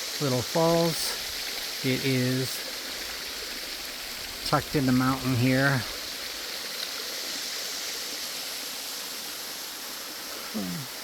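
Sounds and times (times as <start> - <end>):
waterfall hissing: 0.0 - 11.0.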